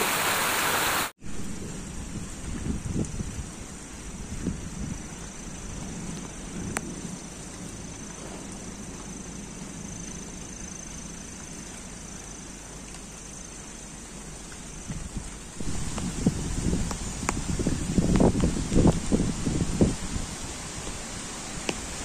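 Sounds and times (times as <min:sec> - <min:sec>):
outdoor ambience: 0:00.0 - 0:22.0.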